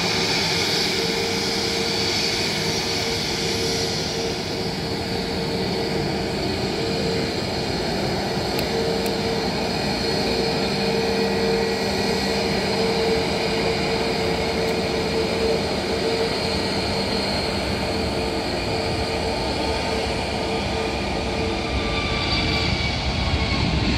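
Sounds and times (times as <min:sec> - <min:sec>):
jet engines rumbling and whining: 0:00.0 - 0:23.9
rising engine whine: 0:00.0 - 0:23.9.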